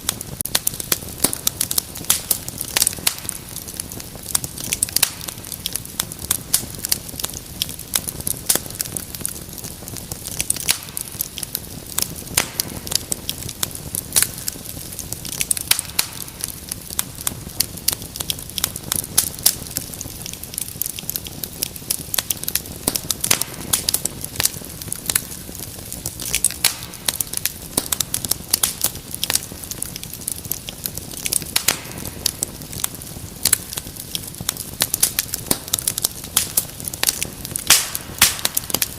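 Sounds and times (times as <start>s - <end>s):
soft rumble of flame: 0.0s - 38.9s
wood fire crackling and popping: 0.0s - 38.9s.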